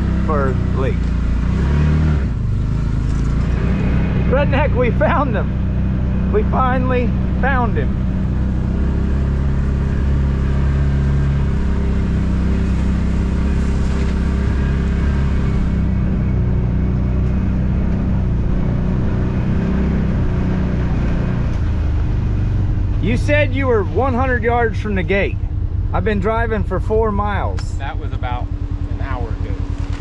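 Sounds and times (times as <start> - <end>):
utility vehicle engine running: 0.0 - 30.0.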